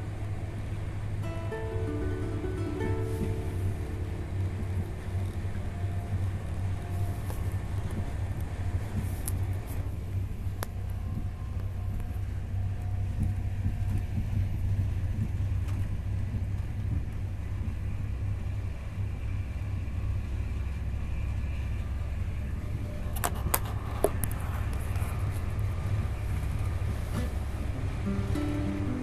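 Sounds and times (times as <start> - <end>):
train rumble inside carriage: 0.0 - 29.0.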